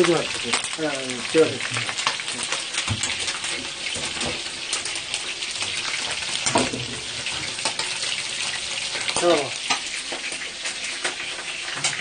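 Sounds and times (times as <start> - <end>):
fat crackling and popping: 0.0 - 12.0
meat sizzling: 0.0 - 12.0.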